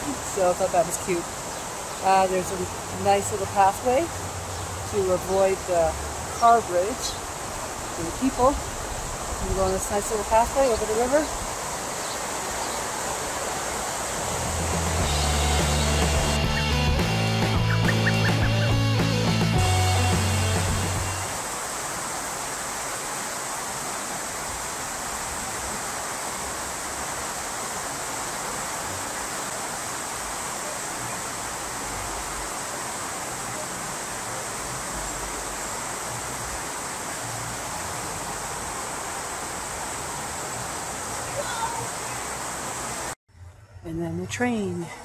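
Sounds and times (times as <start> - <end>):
river water rushing: 0.0 - 43.2.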